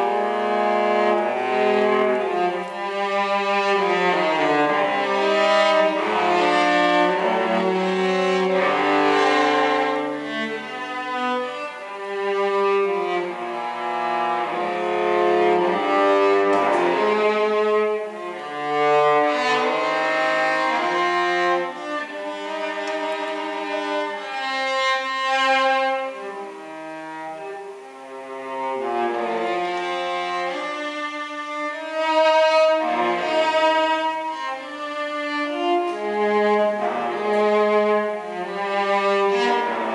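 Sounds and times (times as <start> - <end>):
cello bowed melody: 0.0 - 39.9.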